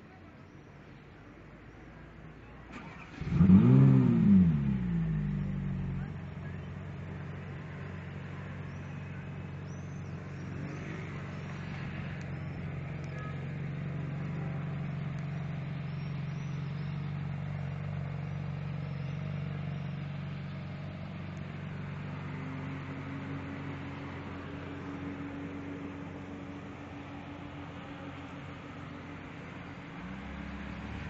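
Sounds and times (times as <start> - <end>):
car engine idling: 2.7 - 30.8.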